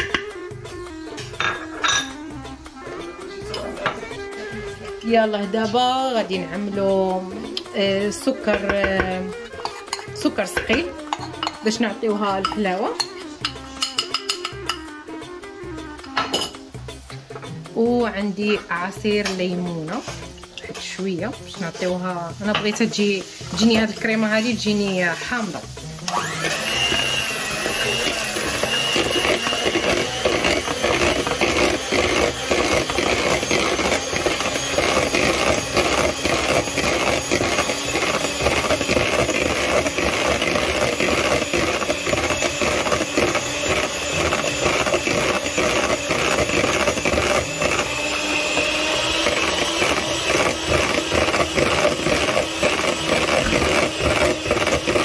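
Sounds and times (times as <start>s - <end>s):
electric hand mixer whipping: 0.0s - 16.2s, 21.5s - 55.0s.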